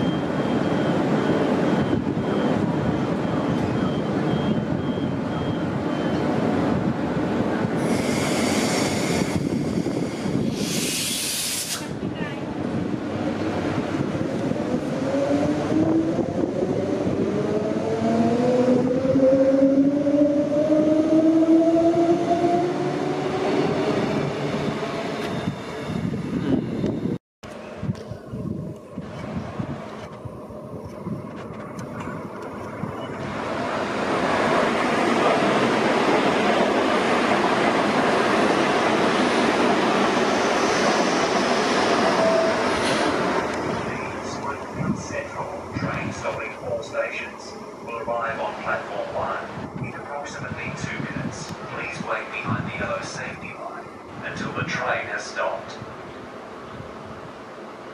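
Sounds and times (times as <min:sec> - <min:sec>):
electric train passing: 0:00.0 - 0:57.9
wheels rumbling on rail: 0:00.0 - 0:57.9.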